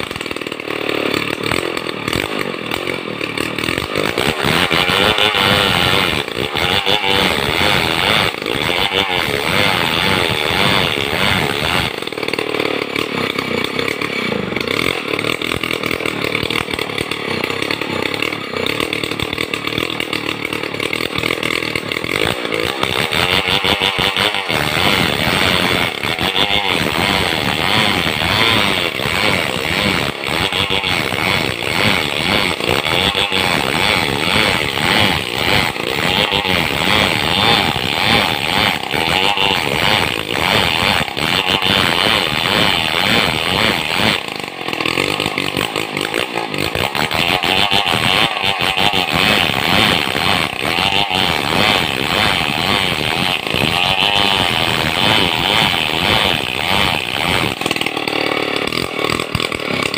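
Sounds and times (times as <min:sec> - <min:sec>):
chainsaw cutting timber: 0:00.0 - 0:59.9.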